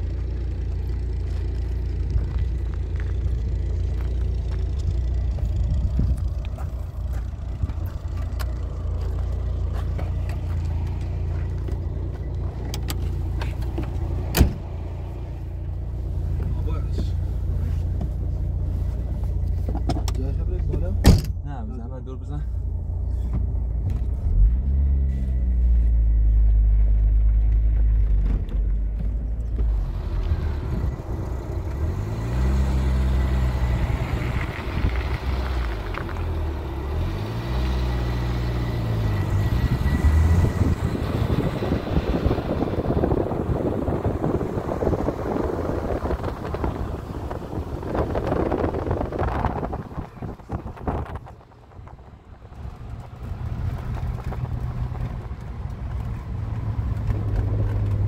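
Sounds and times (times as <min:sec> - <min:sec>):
road and wind noise: 0:00.0 - 0:58.0
vehicle engine running: 0:00.0 - 0:58.0.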